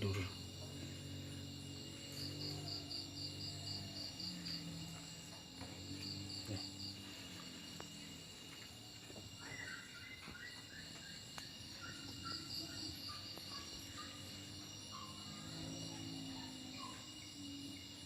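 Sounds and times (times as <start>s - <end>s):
crickets and insects chirring: 0.0s - 18.0s.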